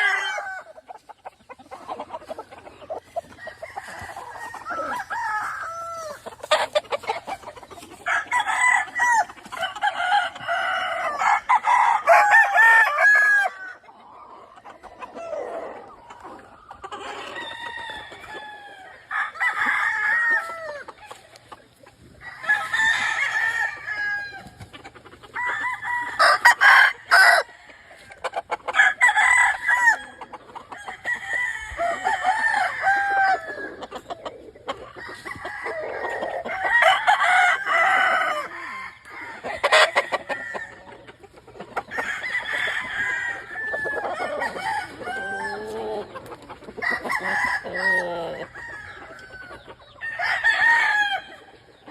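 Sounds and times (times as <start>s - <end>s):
roosters crowing: 0.0s - 51.9s.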